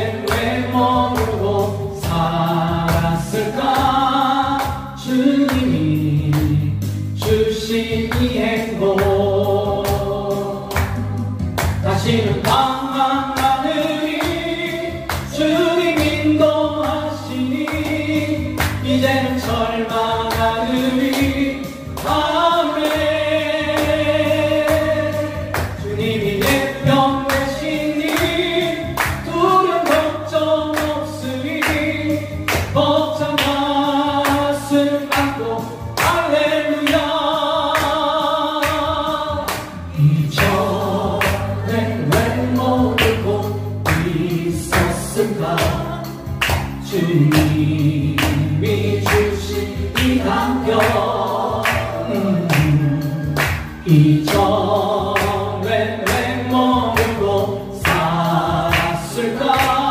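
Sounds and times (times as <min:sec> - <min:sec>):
man singing into a microphone: 0:00.0 - 0:11.2, 0:11.8 - 0:59.9
music with a steady beat: 0:00.0 - 0:59.9.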